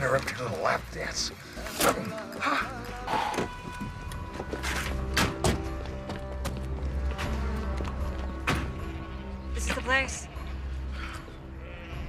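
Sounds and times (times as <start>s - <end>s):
deep bass music score: 0.0s - 12.0s.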